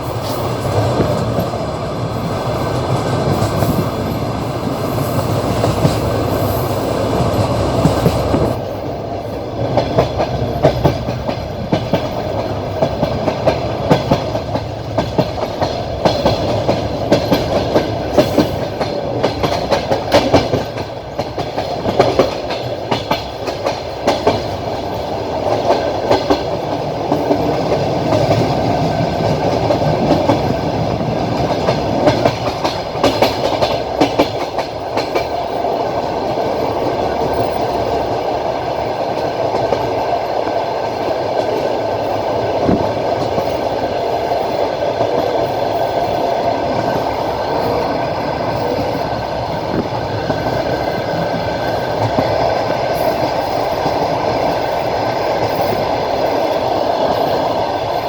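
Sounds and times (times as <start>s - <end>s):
train rumbling: 0.0s - 58.0s
wheels clacking over rail joints: 0.0s - 58.0s.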